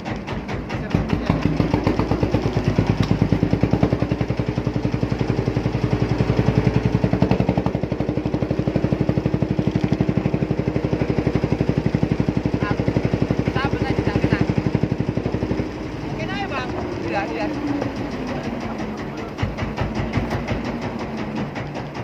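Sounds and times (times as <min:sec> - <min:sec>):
boat engine thumping: 0:00.0 - 0:22.0.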